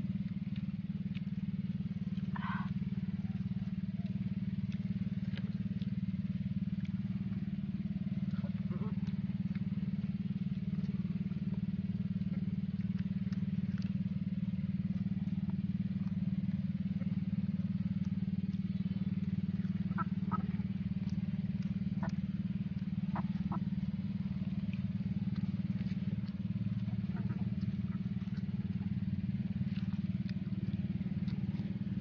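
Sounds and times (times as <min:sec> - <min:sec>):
small engine droning: 0:00.0 - 0:32.0.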